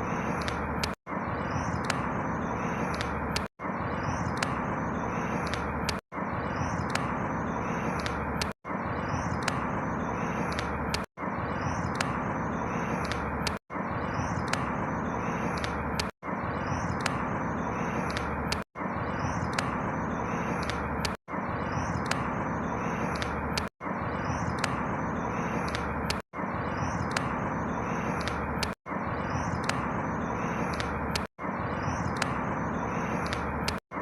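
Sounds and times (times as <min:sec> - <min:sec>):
steady outdoor noise: 0:00.0 - 0:34.0.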